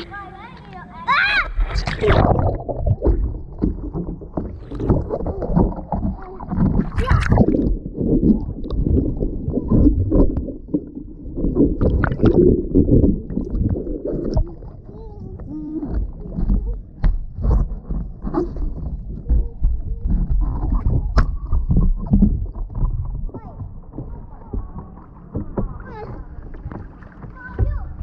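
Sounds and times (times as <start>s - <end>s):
pool water sloshing and splashing: 0.0s - 28.0s.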